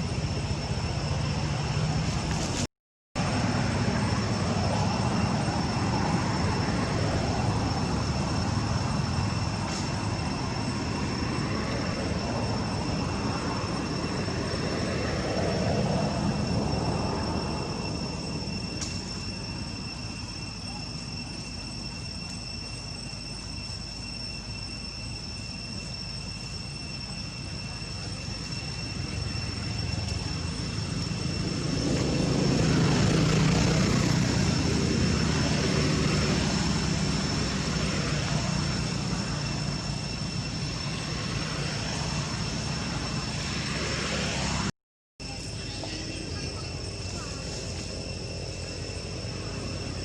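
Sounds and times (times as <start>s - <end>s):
low engine drone: 0.0s - 44.7s
high-pitched whine: 0.0s - 50.0s.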